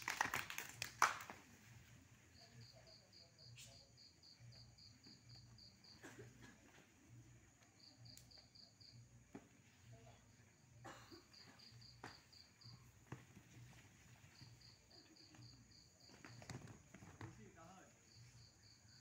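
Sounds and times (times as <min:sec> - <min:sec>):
cricket chirping: 0:02.1 - 0:19.0.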